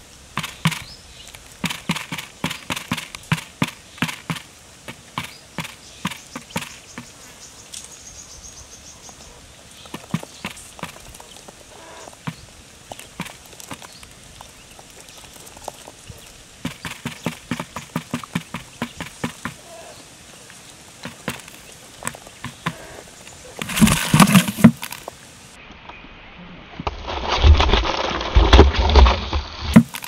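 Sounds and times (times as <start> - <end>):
quail pecking grain on hard lid: 0.0 - 7.2, 9.8 - 25.2, 27.1 - 30.0.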